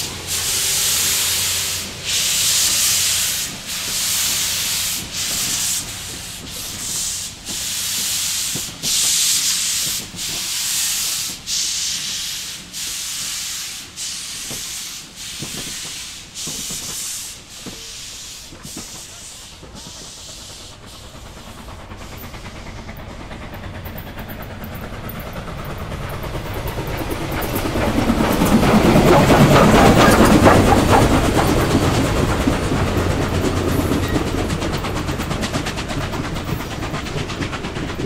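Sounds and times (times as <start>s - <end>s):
steam locomotive exhaust chuffs: 0.0s - 38.0s.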